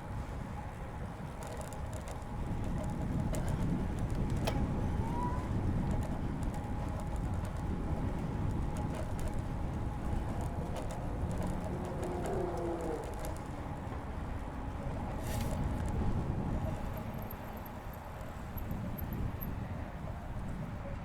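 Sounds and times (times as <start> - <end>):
wind and bicycle tyres rumble: 0.0 - 21.0.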